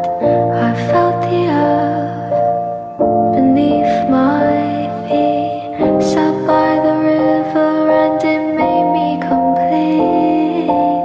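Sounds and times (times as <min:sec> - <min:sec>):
soft gentle music chords: 0:00.0 - 0:11.0.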